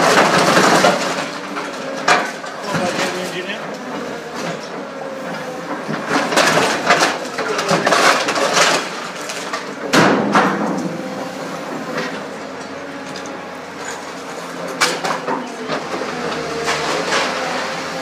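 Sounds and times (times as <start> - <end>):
scrap metal crunching and clanking: 0.0 - 18.0
machine hum: 3.3 - 18.0.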